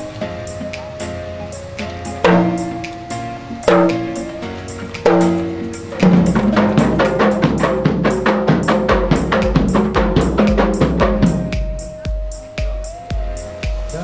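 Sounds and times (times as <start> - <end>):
deep bass drum beats: 0.0 - 14.0
frame drums beating: 0.0 - 14.0
struck ringing tone: 1.5 - 14.0.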